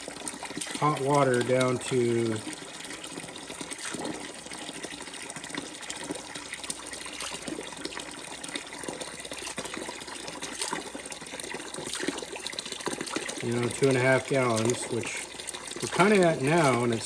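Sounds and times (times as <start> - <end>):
water running in a stream: 0.0 - 17.0.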